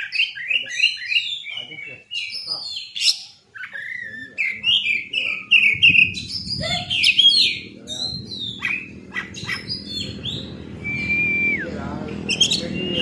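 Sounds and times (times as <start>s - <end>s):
bird singing chirps and whistles: 0.0s - 13.0s.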